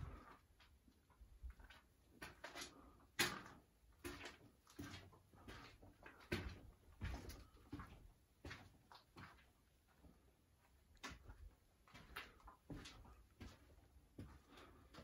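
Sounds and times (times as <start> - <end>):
footsteps on gritty floor: 1.5 - 9.6, 11.0 - 15.0.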